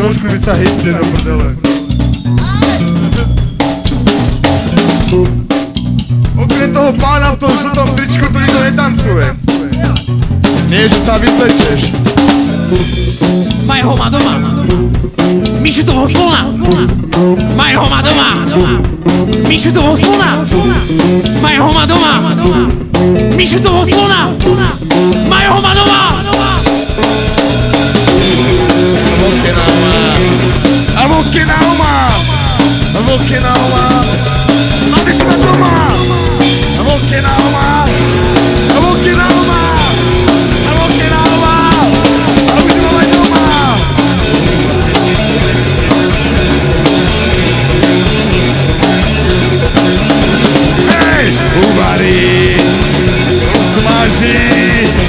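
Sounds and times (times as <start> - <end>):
band playing live: 0.0 - 55.0
drum kit beat: 0.0 - 55.0.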